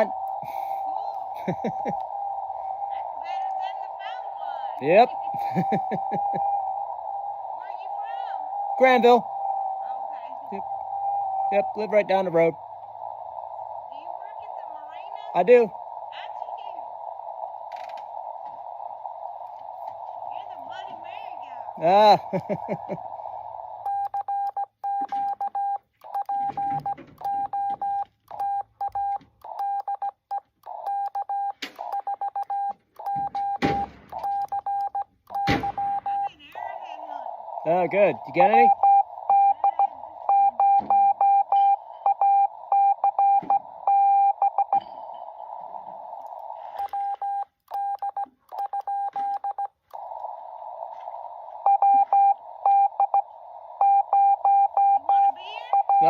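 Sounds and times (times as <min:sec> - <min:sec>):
morse code tone: 0:00.0 - 0:17.5, 0:18.9 - 0:45.3, 0:46.3 - 0:49.8, 0:50.9 - 0:56.0
bursts of radio noise: 0:00.0 - 0:56.0.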